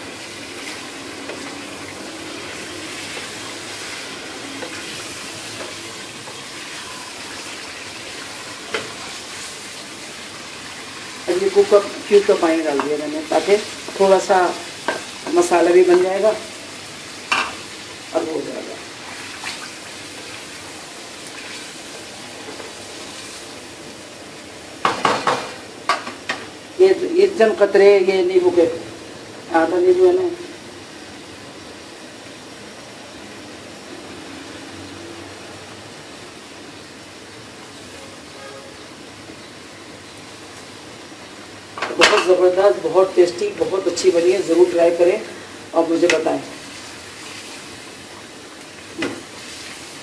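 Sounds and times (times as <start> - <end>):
food sizzling in hot pan: 0.0 - 50.0.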